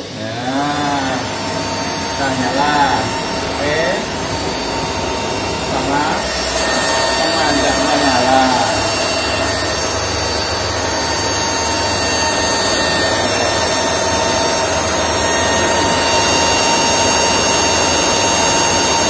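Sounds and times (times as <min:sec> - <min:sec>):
cooling fans rushing: 0:00.0 - 0:19.0
faint steady whines: 0:00.0 - 0:19.0.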